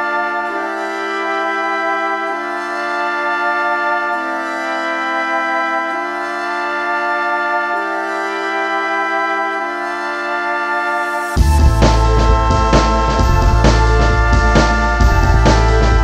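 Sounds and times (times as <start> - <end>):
sustained chord music: 0.0 - 16.0.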